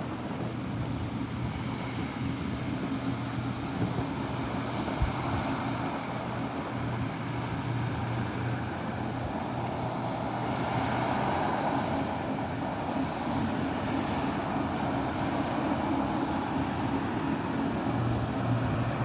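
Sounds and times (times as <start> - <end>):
motorboat engines droning: 0.0 - 19.0
water noise: 0.0 - 19.0
wind: 0.0 - 19.0.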